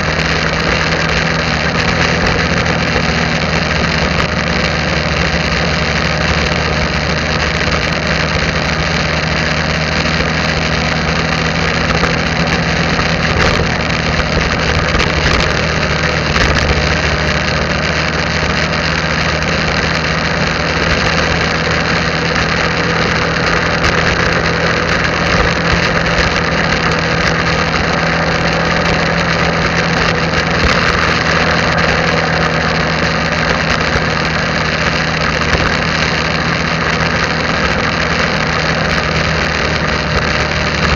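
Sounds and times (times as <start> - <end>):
motorbike engine running: 0.0 - 40.9
road noise: 0.0 - 40.9
wind noise: 0.0 - 40.9.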